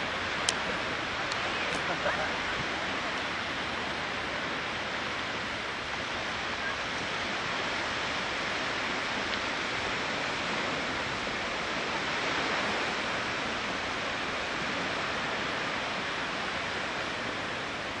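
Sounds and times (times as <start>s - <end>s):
surf: 0.0s - 18.0s
wind: 0.0s - 18.0s.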